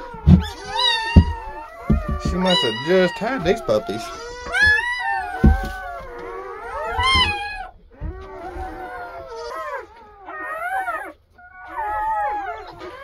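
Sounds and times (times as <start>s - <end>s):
puppies crying and squealing: 0.0s - 13.0s.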